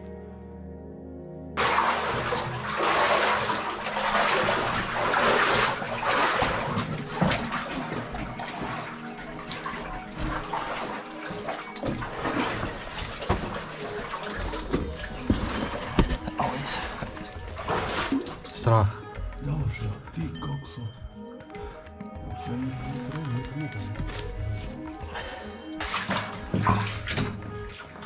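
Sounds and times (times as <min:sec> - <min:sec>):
water splashing and sloshing: 0:01.6 - 0:28.0.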